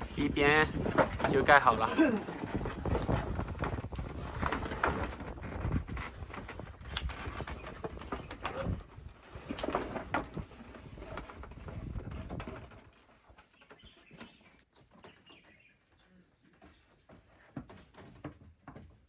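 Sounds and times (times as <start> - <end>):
knocks and clatter on wood: 0.0 - 15.6, 16.6 - 19.0.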